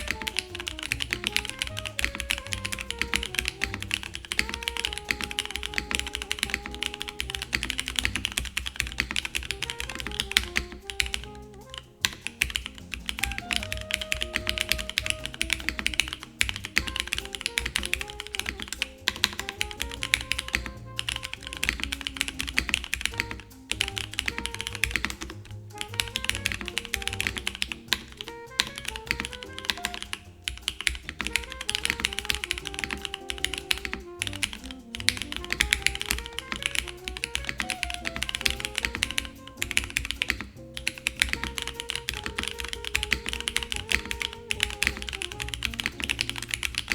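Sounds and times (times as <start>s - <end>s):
background music: 0.0s - 46.9s
typing on mechanical keyboard: 0.0s - 46.9s.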